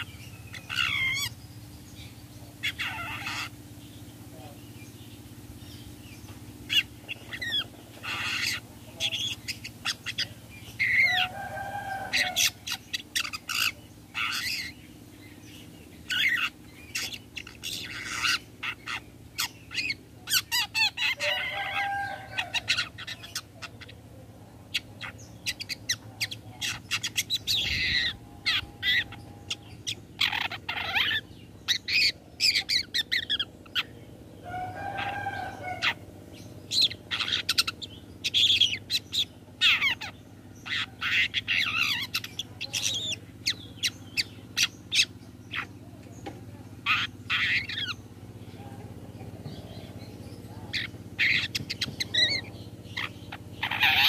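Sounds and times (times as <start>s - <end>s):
bird singing scratchy notes: 0.0s - 54.0s.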